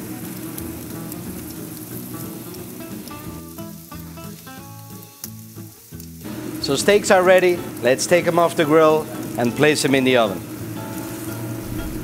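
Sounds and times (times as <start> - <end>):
steaks sizzling on grill: 0.0 - 12.0.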